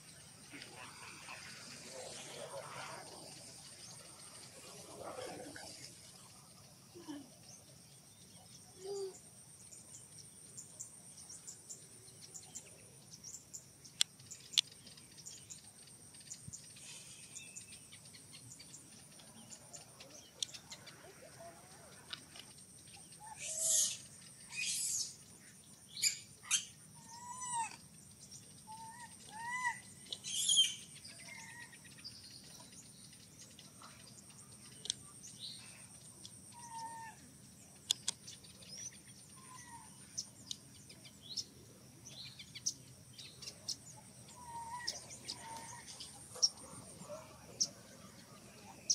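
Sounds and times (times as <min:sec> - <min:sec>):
steady high-pitched hum: 0:00.0 - 0:48.9.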